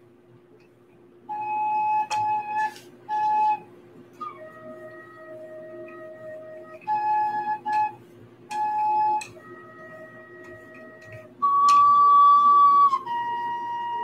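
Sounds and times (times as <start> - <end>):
recorder playing slow tune: 1.3 - 14.0.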